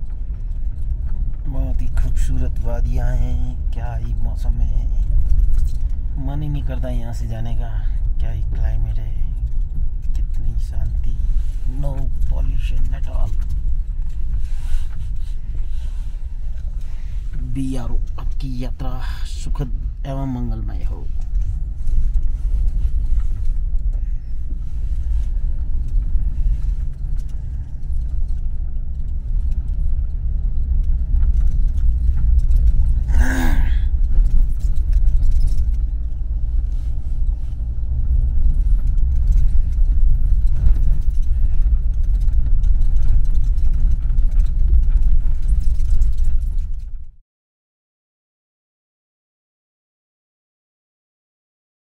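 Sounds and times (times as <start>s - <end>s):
vehicle engine and road rumble: 0.0s - 47.2s.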